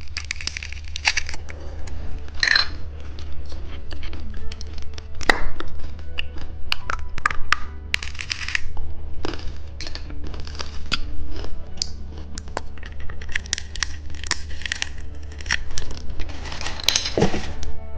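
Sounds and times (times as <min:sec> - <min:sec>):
candy wrapper crackling and clicking: 0:00.0 - 0:17.7
steady low hum: 0:00.0 - 0:17.9.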